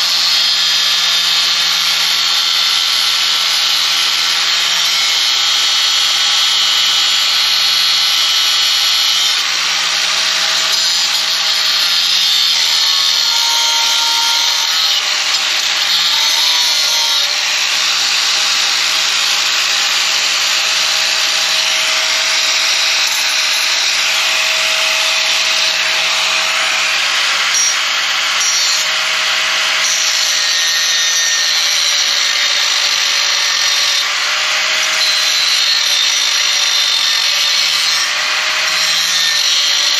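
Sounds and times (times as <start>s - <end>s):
power tool cutting steel pipe: 0.0s - 39.9s.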